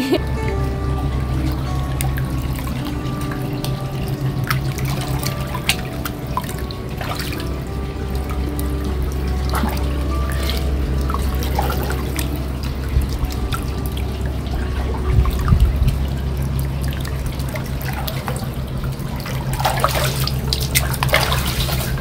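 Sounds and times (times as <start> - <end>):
water flowing and splashing: 0.0 - 22.0.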